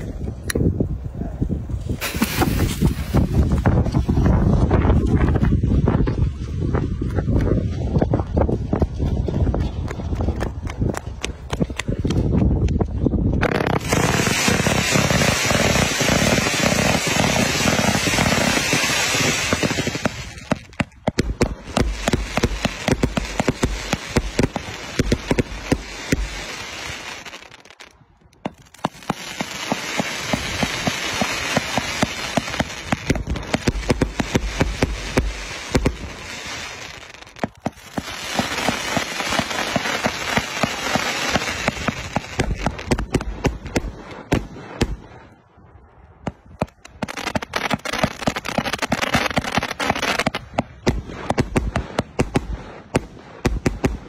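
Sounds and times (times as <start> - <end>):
fireworks launching and bursting: 1.7 - 54.0.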